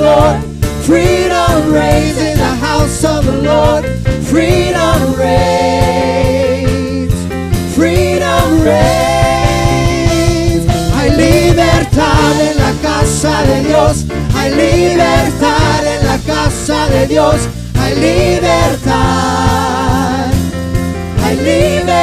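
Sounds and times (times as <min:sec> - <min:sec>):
group singing gospel song: 0:00.0 - 0:22.0
live band with drums: 0:00.0 - 0:22.0.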